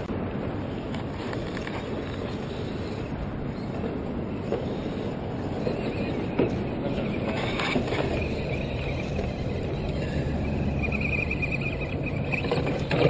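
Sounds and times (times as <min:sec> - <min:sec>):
trucks scraping and knocking on stone: 0:00.9 - 0:13.0
toy truck motors whining: 0:01.4 - 0:13.0.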